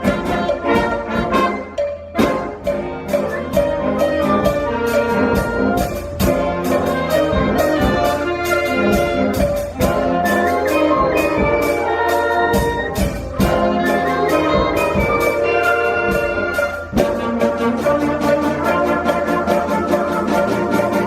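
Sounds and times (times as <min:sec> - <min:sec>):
brass instruments holding notes: 0:00.0 - 0:21.0
sharp percussion hits: 0:00.0 - 0:21.0.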